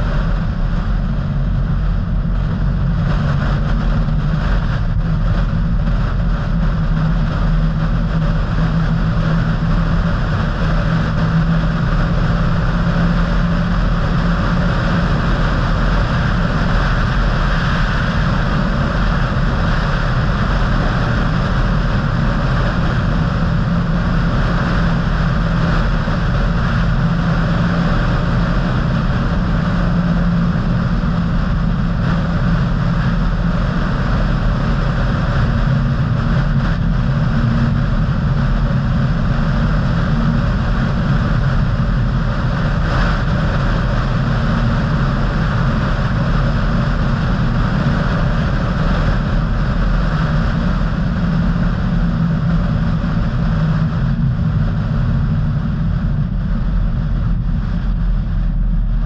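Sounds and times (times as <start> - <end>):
car engine and road noise: 0.0 - 59.0
steady low hum: 0.0 - 59.0.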